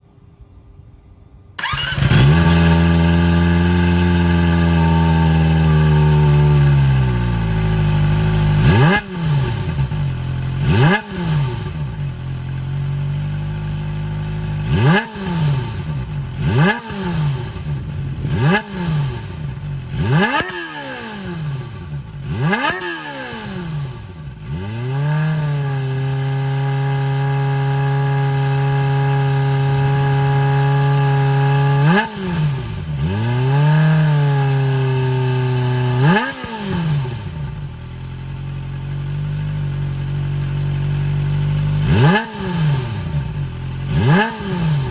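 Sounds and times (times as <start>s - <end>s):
motorcycle engine revving: 1.6s - 44.9s.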